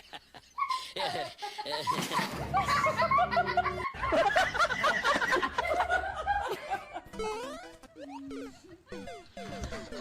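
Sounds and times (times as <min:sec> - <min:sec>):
person laughing: 0:00.0 - 0:10.0.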